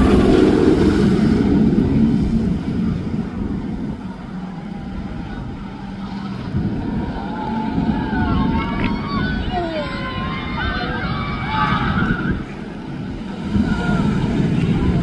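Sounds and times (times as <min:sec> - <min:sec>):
roller coaster rushing on track: 0:00.0 - 0:15.0.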